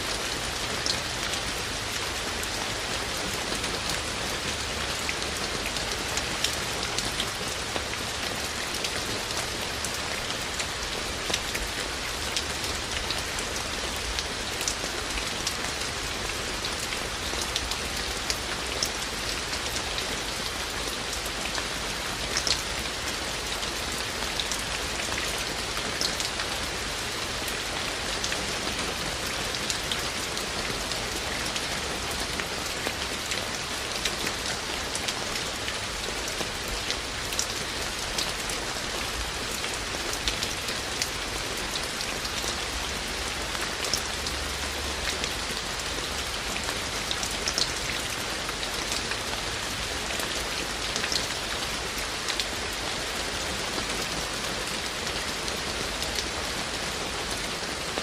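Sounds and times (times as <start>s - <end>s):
raindrops hitting close by: 0.0s - 58.0s
steady rain: 0.0s - 58.0s.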